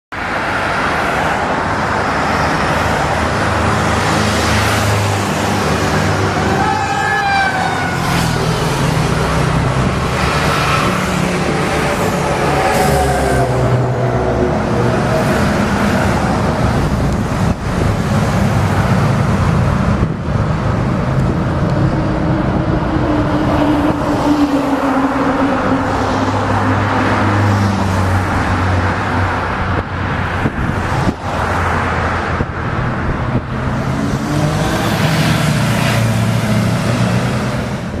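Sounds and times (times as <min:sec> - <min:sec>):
heavy trucks driving past: 0:00.2 - 0:38.0.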